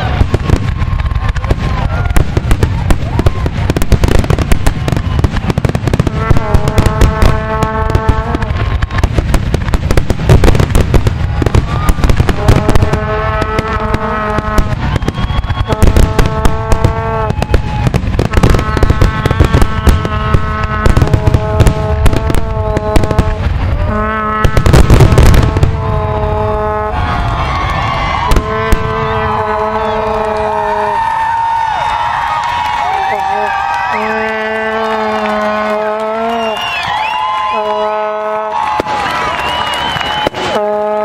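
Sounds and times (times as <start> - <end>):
fireworks bursts with crackling: 0.0 - 41.0.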